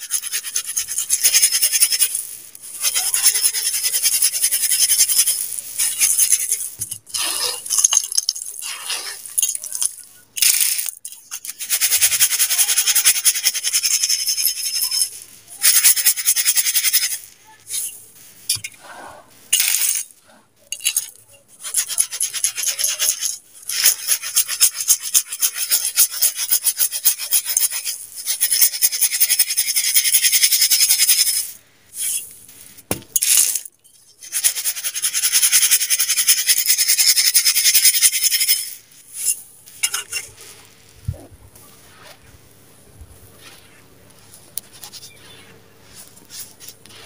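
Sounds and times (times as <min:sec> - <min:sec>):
grit rattling in metal bowl: 0:00.0 - 0:18.8, 0:19.4 - 0:41.0, 0:43.3 - 0:47.0.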